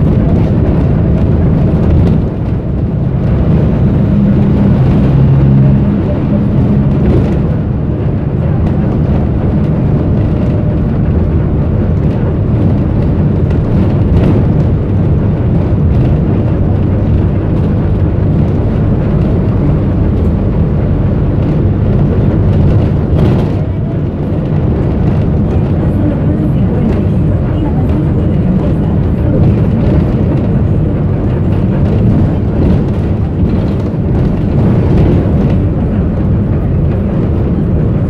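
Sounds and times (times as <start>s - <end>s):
bus engine and road rumble: 0.0s - 38.0s.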